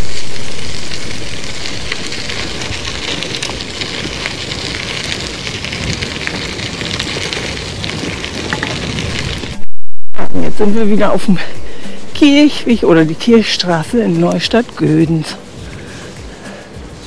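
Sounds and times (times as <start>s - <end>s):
bicycle wind and rolling noise: 0.0s - 17.0s.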